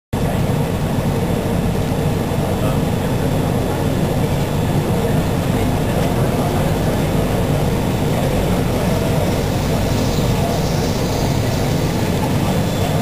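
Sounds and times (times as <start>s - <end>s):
exhibition hall rumble: 0.2s - 13.0s.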